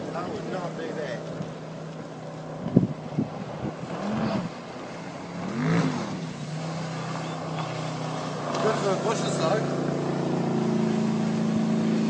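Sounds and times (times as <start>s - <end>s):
motorboat engine revving: 0.0s - 12.0s.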